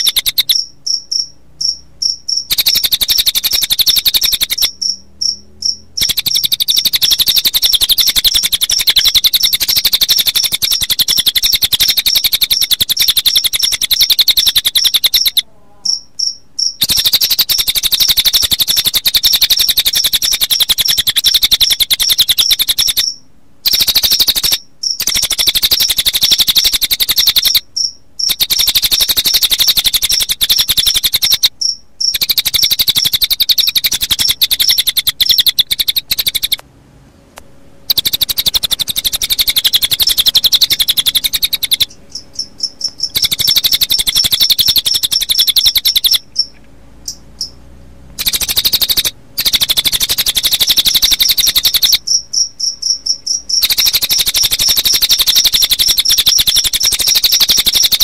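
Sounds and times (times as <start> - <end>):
bird trilling: 0.0 - 36.6, 37.8 - 47.6, 48.2 - 58.0
crickets chirping: 0.0 - 36.6, 37.8 - 58.0.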